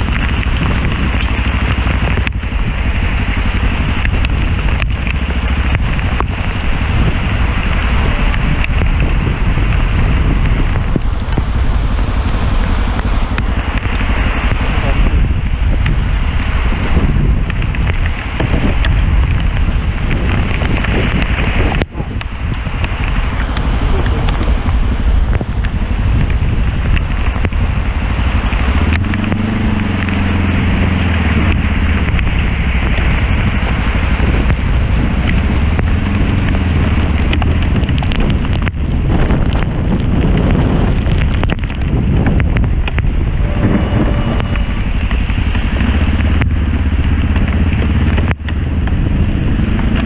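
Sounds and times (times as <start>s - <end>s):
motorcycle engine running: 0.0s - 50.0s
rain and road spray: 0.0s - 50.0s
wind buffeting microphone: 0.0s - 50.0s.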